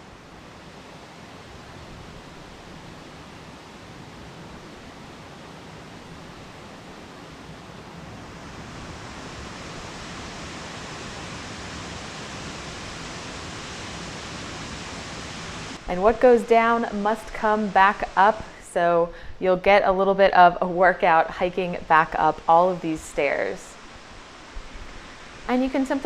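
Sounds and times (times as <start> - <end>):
waterfall rushing: 0.0 - 18.6, 21.5 - 26.0.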